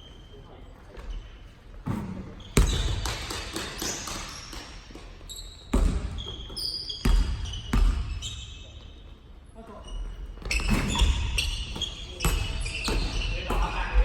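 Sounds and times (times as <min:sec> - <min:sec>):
sneakers squeaking on court: 0:00.0 - 0:14.0.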